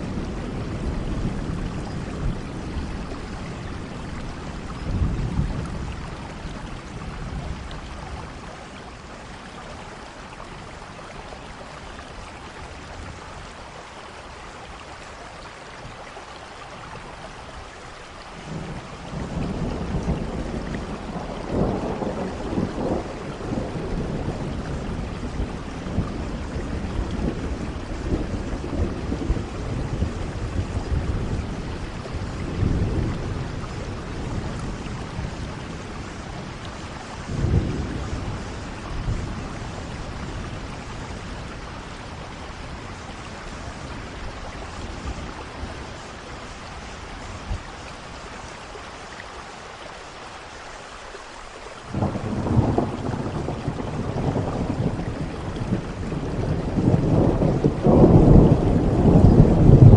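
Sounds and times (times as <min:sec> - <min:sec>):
low rumble of thunder: 0:00.0 - 0:49.4, 0:51.7 - 0:59.9
steady rain: 0:00.0 - 0:59.9.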